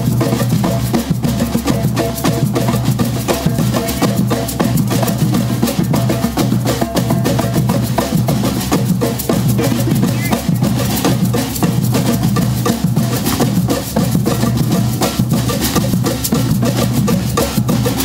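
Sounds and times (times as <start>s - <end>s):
drum ensemble playing rhythm: 0.0s - 18.0s.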